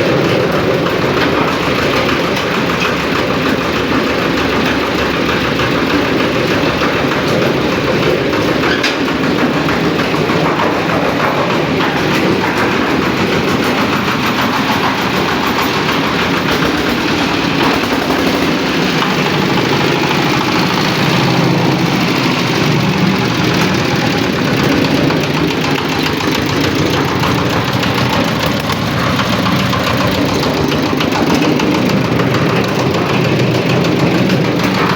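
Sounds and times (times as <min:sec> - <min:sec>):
diesel engine knocking: 0:00.0 - 0:34.9.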